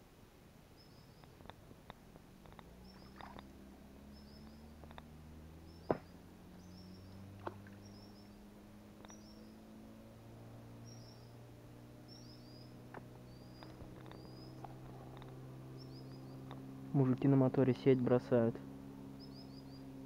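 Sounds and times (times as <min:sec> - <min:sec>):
bird chirping: 0:00.8 - 0:01.5, 0:02.4 - 0:20.0
distant motorboat engine hum: 0:00.8 - 0:20.0.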